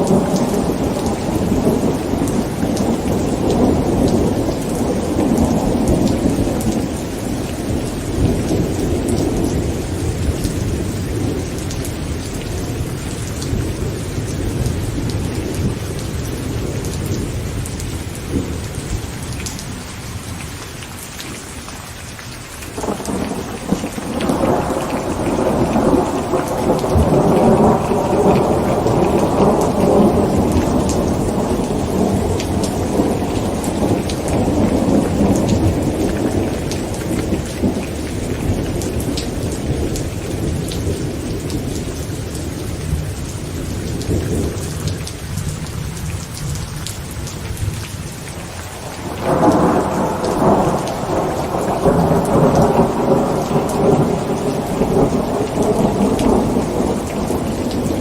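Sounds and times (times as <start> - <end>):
rolling thunder: 0.0 - 19.2, 22.8 - 46.6, 48.6 - 58.0
heavy rain on a tent: 0.0 - 58.0.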